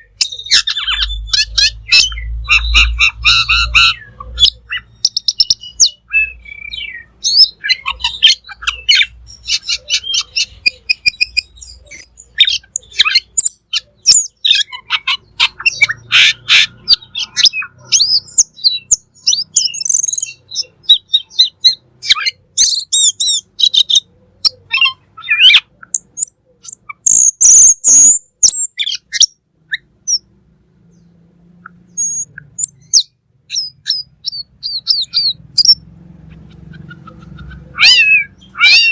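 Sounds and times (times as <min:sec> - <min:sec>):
bird singing chirps and whistles: 0:00.0 - 0:16.2, 0:16.8 - 0:30.3, 0:31.6 - 0:35.9
harsh rasping bird call: 0:00.0 - 0:29.9, 0:31.8 - 0:38.9.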